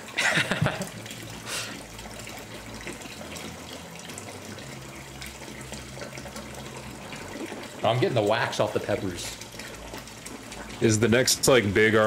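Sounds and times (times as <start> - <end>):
faucet running: 0.0 - 12.0
water splashing into sink: 0.0 - 12.0.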